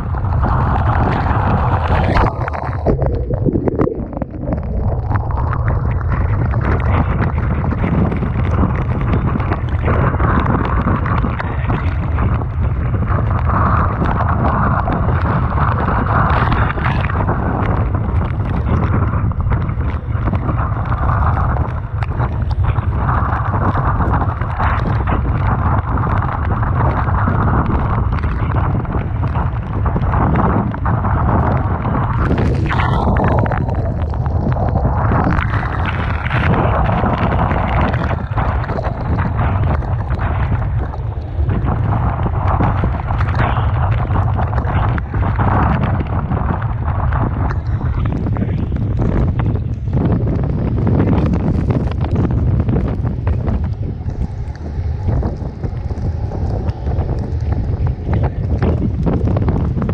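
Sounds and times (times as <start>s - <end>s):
strong wind buffeting microphone: 0.0s - 59.9s.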